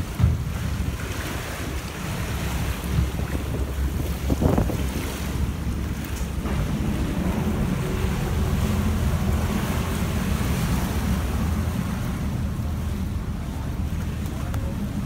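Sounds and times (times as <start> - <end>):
motorboat engine rumble: 0.0 - 15.0
water splashing along hull: 0.0 - 15.0
wind on microphone: 0.0 - 15.0.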